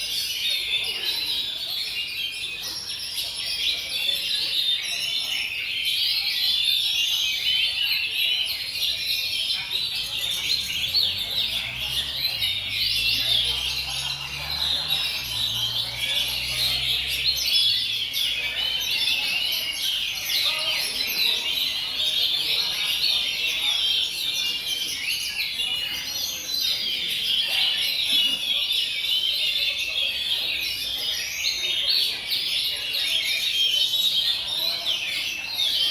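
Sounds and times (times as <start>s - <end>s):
birds singing in chorus: 0.0s - 35.9s.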